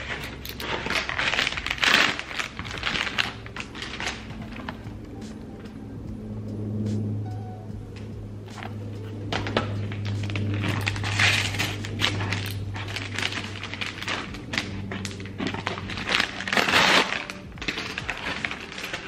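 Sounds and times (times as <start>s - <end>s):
paper crinkling and rustling: 0.0s - 5.4s, 8.5s - 19.0s.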